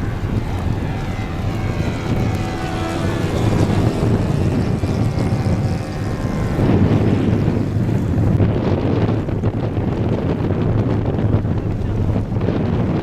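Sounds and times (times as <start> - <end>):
small model plane engine whining: 0.0 - 11.2
wind noise on microphone: 0.0 - 13.0.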